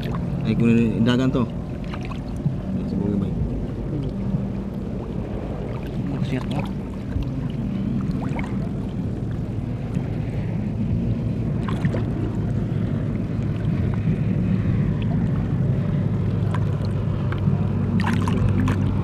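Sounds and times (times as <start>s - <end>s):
steady low hum: 0.0s - 19.0s
water sloshing and splashing: 0.0s - 19.0s.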